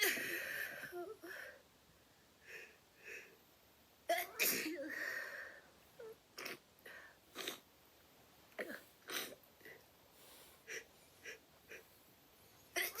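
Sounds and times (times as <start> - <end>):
faint breathy sounds: 0.0 - 3.5, 4.2 - 7.7, 8.5 - 13.0.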